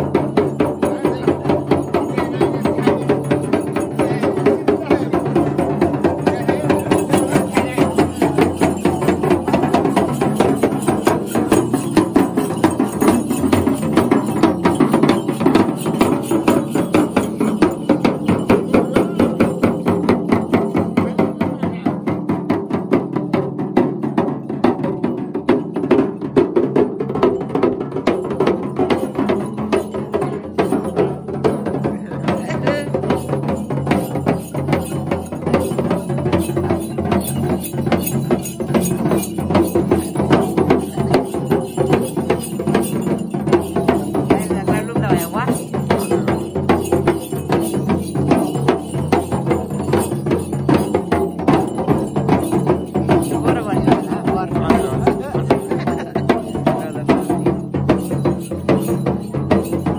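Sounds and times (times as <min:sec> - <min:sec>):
frame drums beaten with sticks: 0:00.0 - 0:59.9
small bells jingling: 0:00.0 - 0:59.9.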